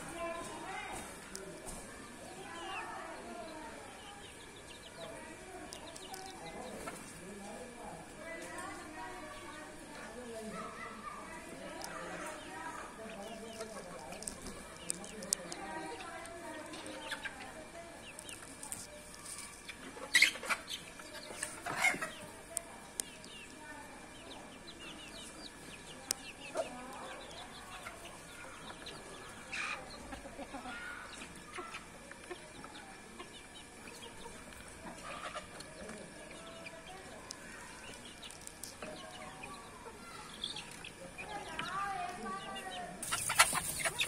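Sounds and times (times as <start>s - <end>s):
chickens clucking and calling: 0.0s - 44.0s.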